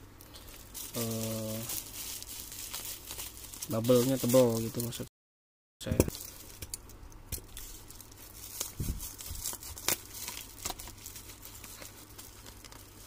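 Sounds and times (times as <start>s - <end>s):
bubble wrap crinkling and tearing: 0.4s - 5.0s, 6.1s - 13.0s
scissors cutting bubble wrap: 0.4s - 5.0s, 6.0s - 13.0s.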